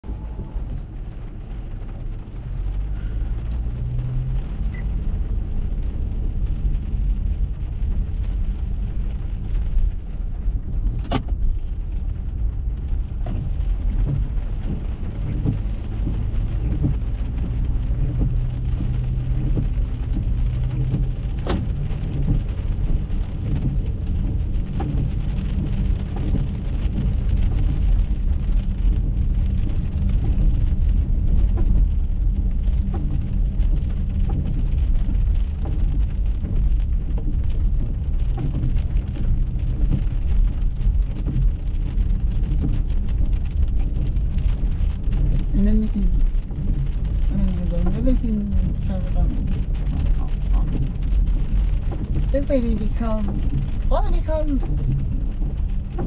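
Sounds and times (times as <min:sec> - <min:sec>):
rain on car roof: 0:00.0 - 0:56.0
steady low rumble: 0:00.0 - 0:56.0.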